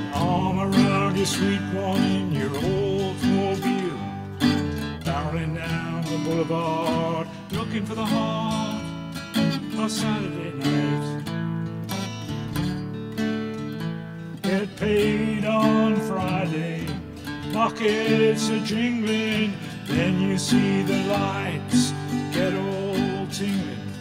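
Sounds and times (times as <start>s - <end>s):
two guitars playing country music: 0.0s - 24.0s.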